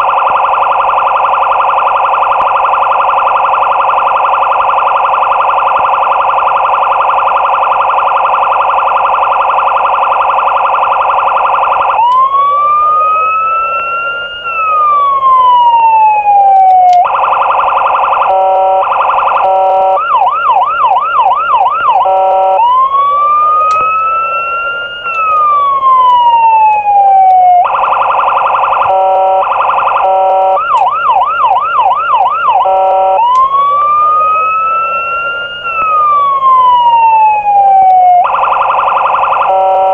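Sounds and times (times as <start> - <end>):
police siren cycling modes: 0.0 - 39.9.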